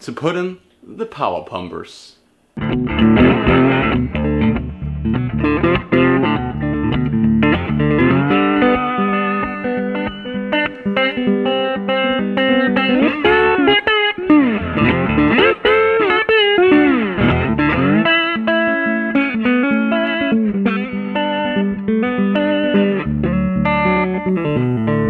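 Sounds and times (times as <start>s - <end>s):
bent gliding guitar notes: 2.6s - 25.0s
electric guitar music: 2.6s - 25.0s.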